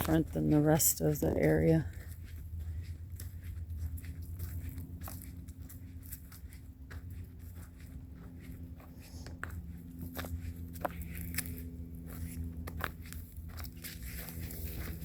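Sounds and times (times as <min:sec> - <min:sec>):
footsteps crackling on trail: 0:00.0 - 0:15.0
steady low rumble: 0:00.0 - 0:15.0.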